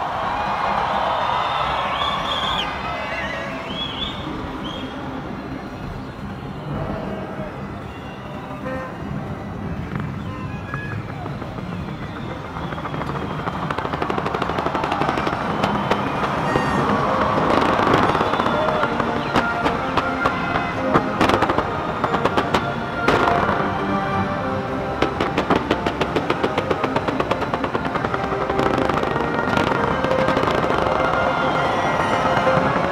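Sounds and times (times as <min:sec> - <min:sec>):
music playing: 0:00.0 - 0:32.9
fireworks crackling and banging: 0:03.6 - 0:32.9.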